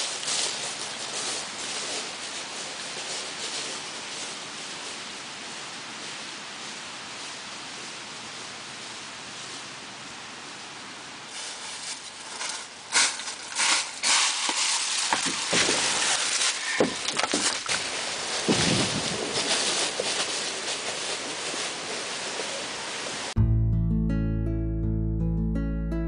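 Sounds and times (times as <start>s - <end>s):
dry leaves crunching under footsteps: 0.0s - 10.1s, 11.3s - 23.0s
wind hiss: 0.0s - 23.4s.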